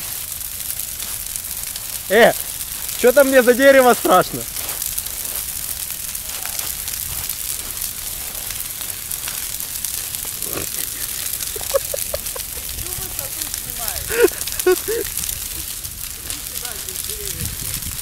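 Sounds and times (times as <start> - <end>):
large fire crackling: 0.0 - 18.0.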